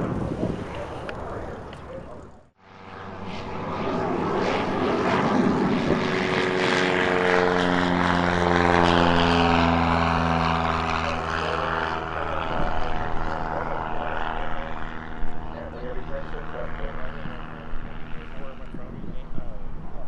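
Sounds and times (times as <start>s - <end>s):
jet roar overhead: 0.0s - 20.0s.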